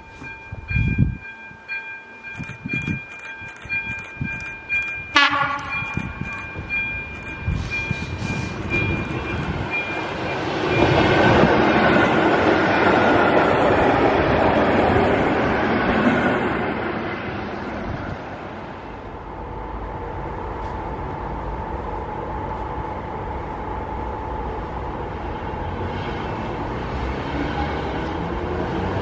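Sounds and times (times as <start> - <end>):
electric train rolling past: 0.0 - 29.0
train approaching with rumble: 0.0 - 29.0.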